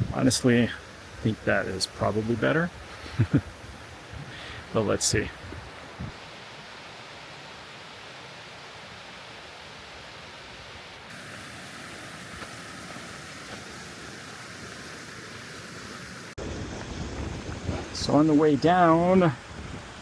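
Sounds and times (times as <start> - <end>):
mountain stream rushing: 0.0 - 20.0.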